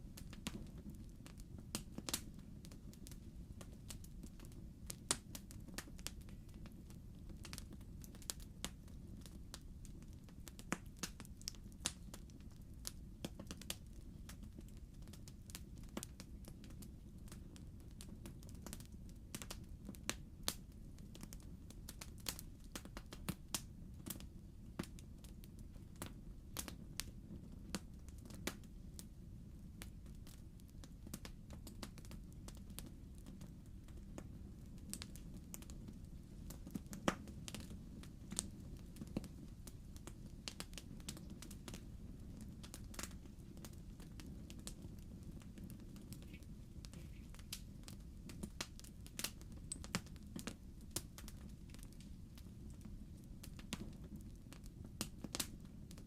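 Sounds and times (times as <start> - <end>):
burning logs crackling and popping: 0.0 - 56.0
low fire rumble: 0.0 - 56.0.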